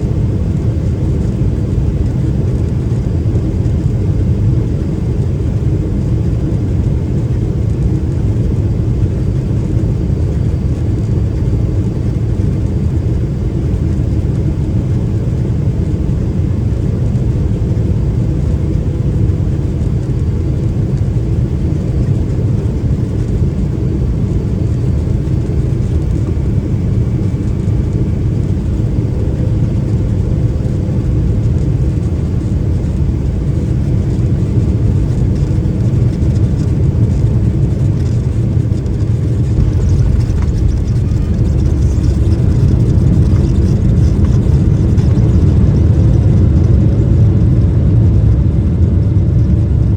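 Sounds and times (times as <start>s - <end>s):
faint steady whines: 0.0s - 49.9s
jet engine and airflow rumble: 0.0s - 49.9s.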